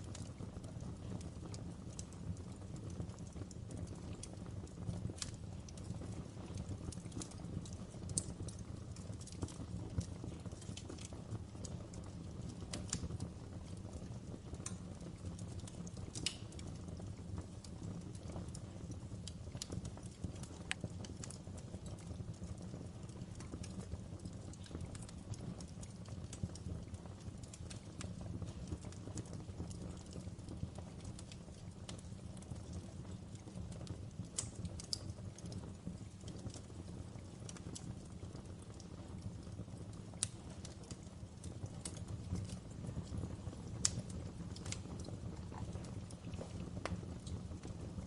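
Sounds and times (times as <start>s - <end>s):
fire crackling in a fireplace: 0.0s - 48.0s.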